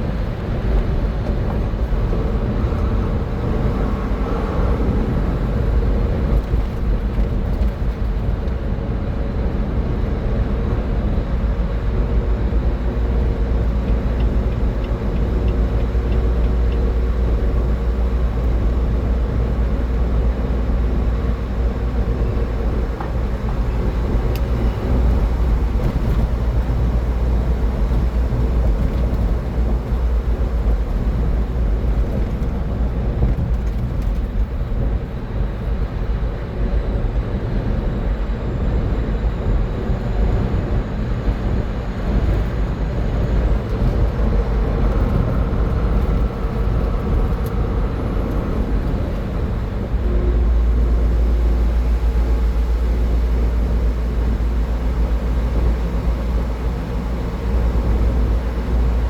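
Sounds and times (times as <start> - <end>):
car road noise at highway speed: 0.0 - 59.0.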